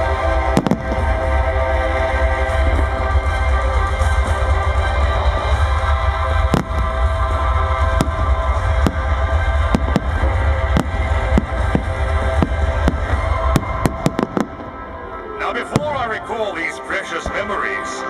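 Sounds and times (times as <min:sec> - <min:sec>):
fireworks bangs: 0:00.0 - 0:18.0
loud music: 0:00.0 - 0:18.0.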